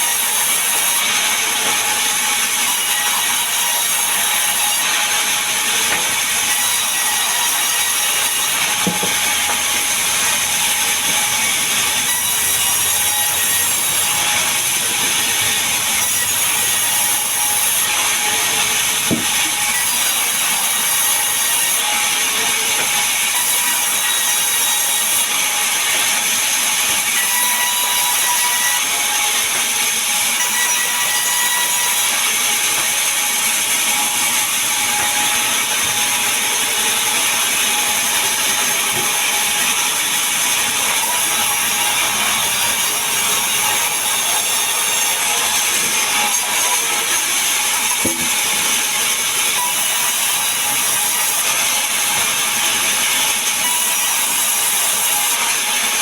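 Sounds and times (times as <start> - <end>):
power saw cutting timber: 0.0 - 56.0.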